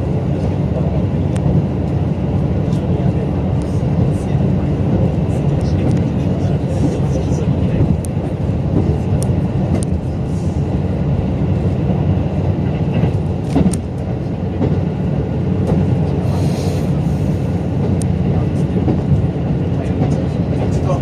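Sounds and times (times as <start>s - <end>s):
train engine and wheels rumbling: 0.0s - 21.0s.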